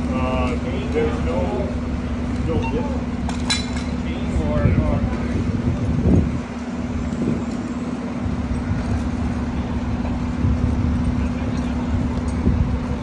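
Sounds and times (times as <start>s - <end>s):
fire engine idling: 0.0s - 13.0s.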